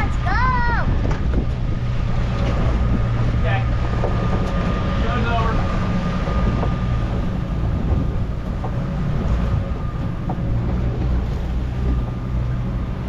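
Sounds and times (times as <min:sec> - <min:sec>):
boat engine rumbling: 0:00.0 - 0:13.0
wind on microphone: 0:00.0 - 0:13.0.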